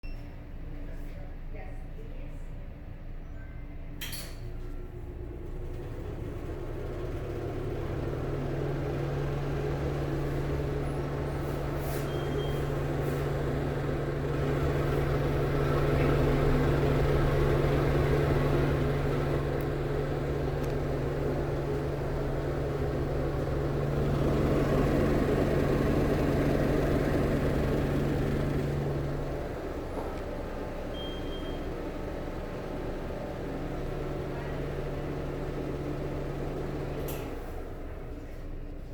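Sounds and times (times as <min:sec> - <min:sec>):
exhaust fan motor hum: 0:04.2 - 0:38.9.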